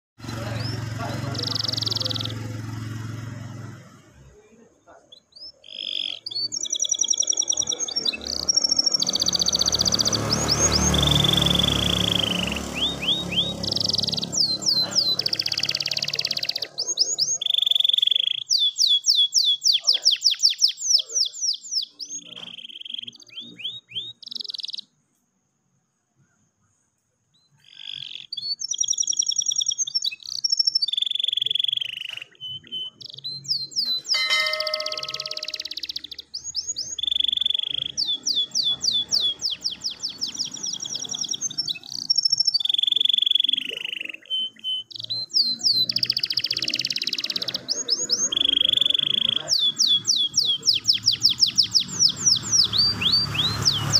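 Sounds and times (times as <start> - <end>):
canary singing trills: 0.2 - 25.1, 27.3 - 53.9.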